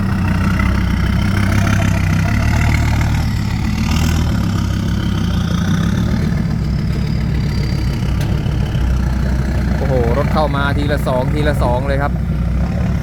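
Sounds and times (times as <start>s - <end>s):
diesel truck engines running: 0.0s - 13.0s.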